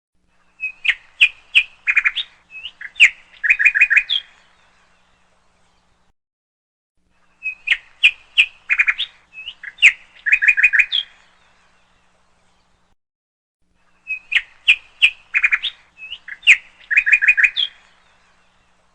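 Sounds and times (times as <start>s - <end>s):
bird song with high chirps: 0.3s - 6.1s, 7.1s - 13.0s, 13.8s - 18.9s.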